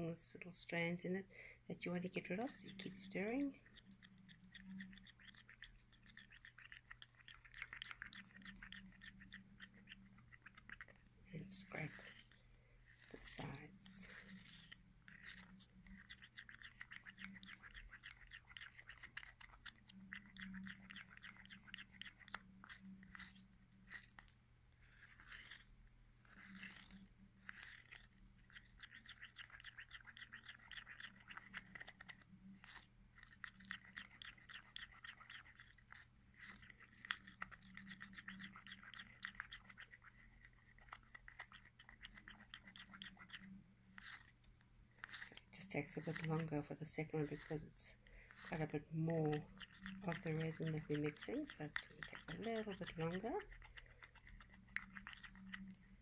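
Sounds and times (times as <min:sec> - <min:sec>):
stick scraping mixing cup: 0:00.1 - 0:56.0.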